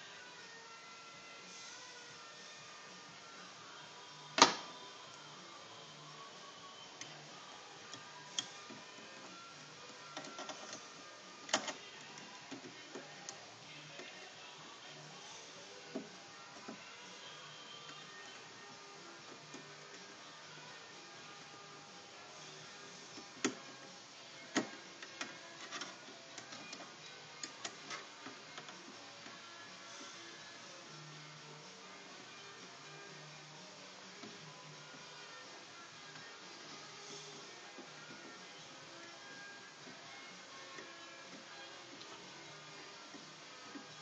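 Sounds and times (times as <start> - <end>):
faint music: 0.0 - 44.0.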